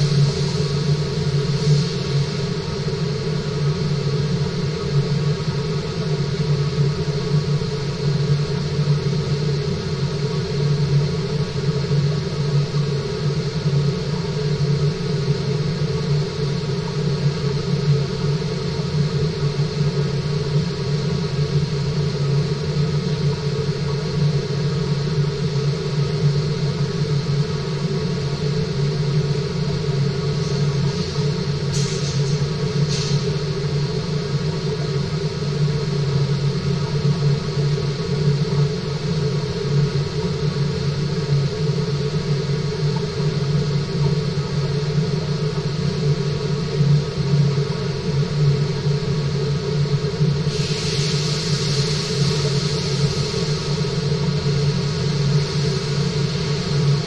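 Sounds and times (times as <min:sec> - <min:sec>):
fish tank pump hum: 0:00.0 - 0:57.0.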